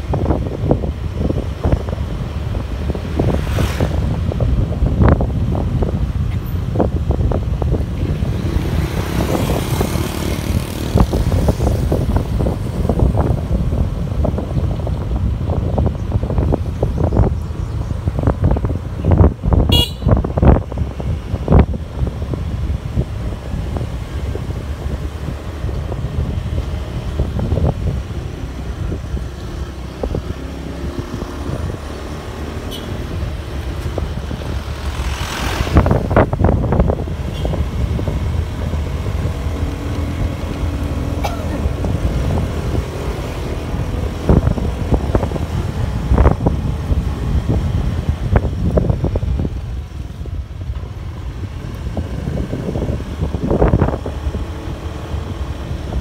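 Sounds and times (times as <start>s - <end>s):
motor scooter road noise: 0.0s - 56.0s
wind buffeting microphone: 0.0s - 56.0s.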